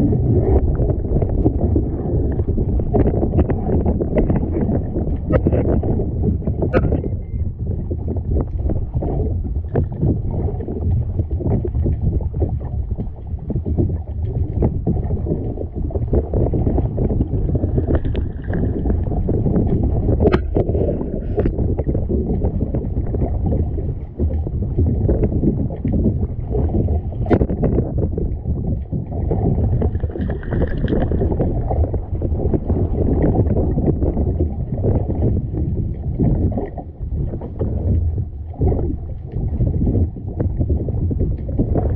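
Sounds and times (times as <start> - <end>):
wind rumbling on microphone: 0.0 - 41.9.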